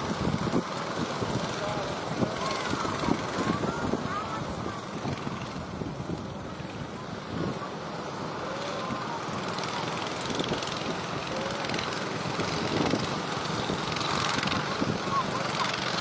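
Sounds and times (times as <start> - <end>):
rough sea waves: 0.0 - 16.0
strong wind: 0.0 - 16.0.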